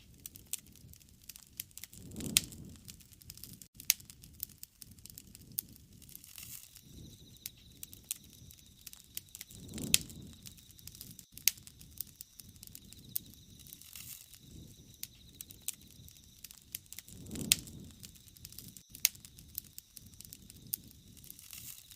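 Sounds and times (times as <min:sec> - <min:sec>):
rush of burning flame: 0:00.0 - 0:21.9
wood fire crackling and popping: 0:00.0 - 0:21.9.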